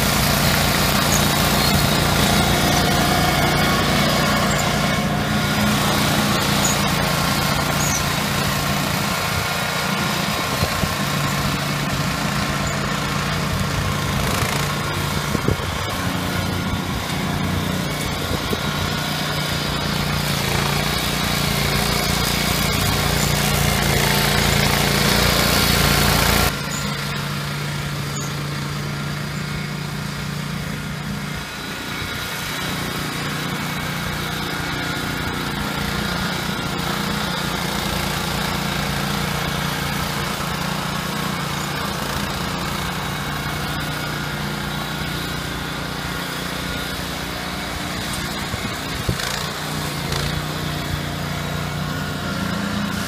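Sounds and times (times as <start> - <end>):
brush cutter engine running: 0.0 - 53.0.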